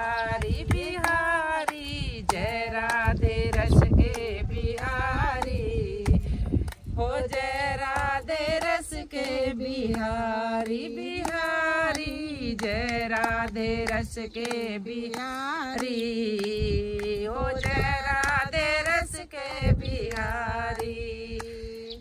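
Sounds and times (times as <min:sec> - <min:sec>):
hand claps: 0:00.0 - 0:19.2, 0:20.0 - 0:21.6
two women singing: 0:00.0 - 0:22.0.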